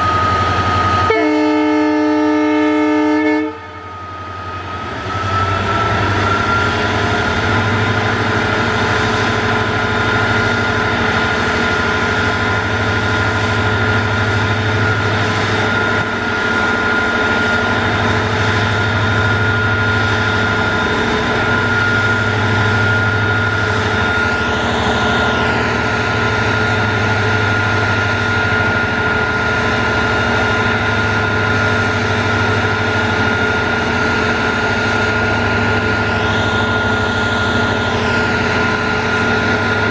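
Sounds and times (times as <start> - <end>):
diesel locomotive engines throbbing: 0.0 - 39.9
turbocharger whine: 0.0 - 39.9.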